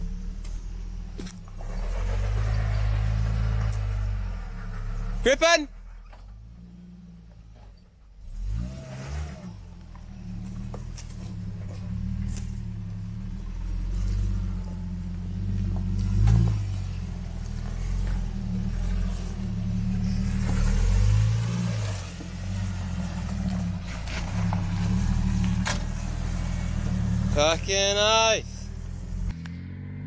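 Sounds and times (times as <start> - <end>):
off-road vehicle engine: 0.0 - 30.0.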